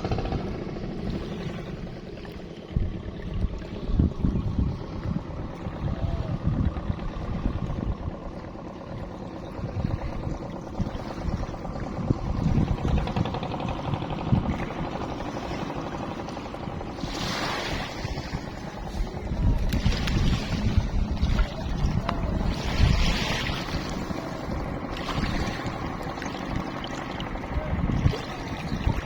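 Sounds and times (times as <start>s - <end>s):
engine hum: 0.0s - 29.0s
river water lapping and rushing: 0.0s - 29.0s
wind rumble on microphone: 0.0s - 29.0s.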